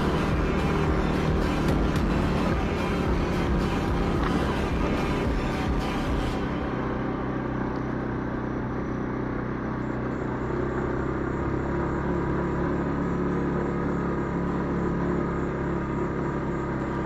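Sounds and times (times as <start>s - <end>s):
moped engine running: 0.0s - 17.0s.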